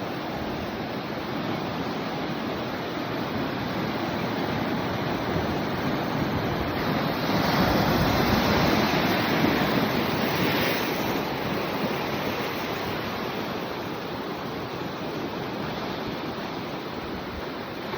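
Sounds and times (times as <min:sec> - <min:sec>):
ocean waves breaking on shore: 0:00.0 - 0:17.9.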